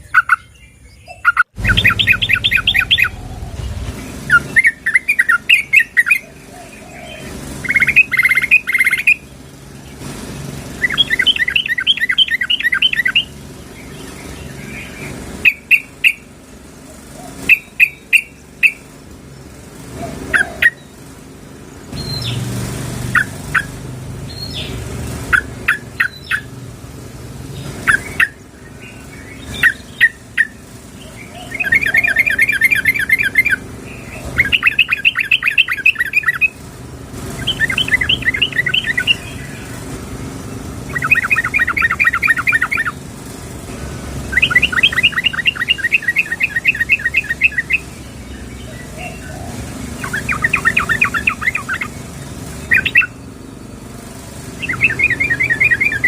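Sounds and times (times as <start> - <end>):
bulbul calling: 0.0 - 10.1, 10.7 - 19.0, 19.8 - 21.0, 23.0 - 26.6, 27.5 - 56.0.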